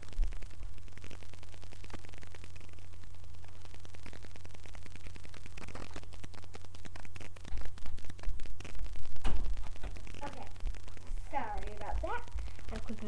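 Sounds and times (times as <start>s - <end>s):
crackly static: 0.0s - 13.0s
steady low hum: 0.0s - 13.0s.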